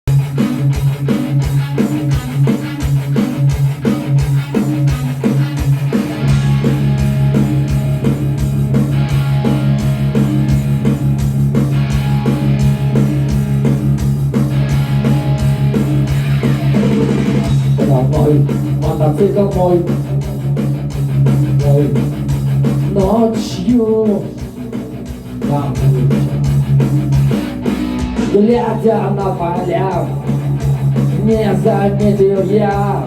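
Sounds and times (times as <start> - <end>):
sustained bass: 0.0 - 33.0
rock guitar riff: 0.1 - 33.0.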